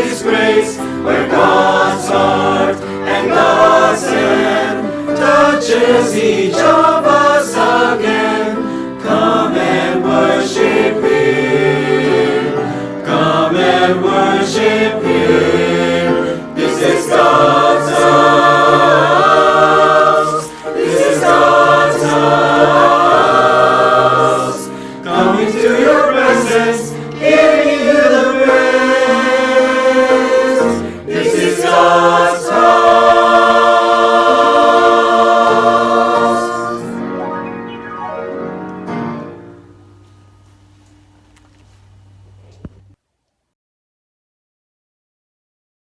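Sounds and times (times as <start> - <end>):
choir singing in harmony: 0.0 - 39.8.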